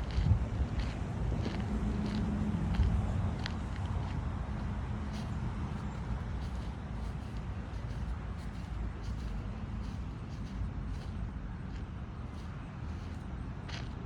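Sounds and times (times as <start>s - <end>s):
footsteps on pavement: 0.0s - 14.0s
traffic rumble: 0.0s - 14.0s.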